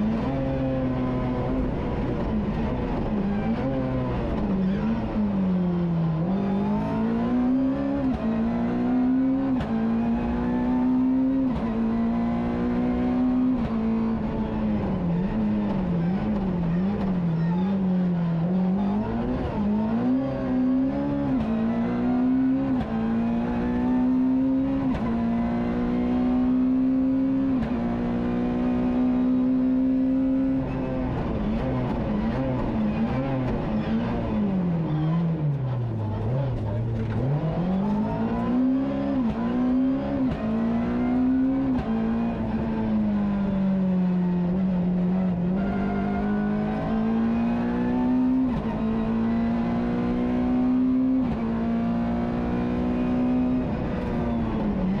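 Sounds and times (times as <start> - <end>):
rally car engine accelerating: 0.0 - 55.0.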